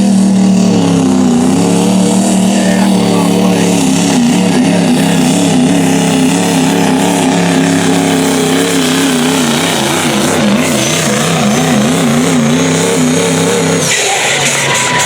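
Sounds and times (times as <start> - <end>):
diesel truck engine at full throttle: 0.0 - 15.0.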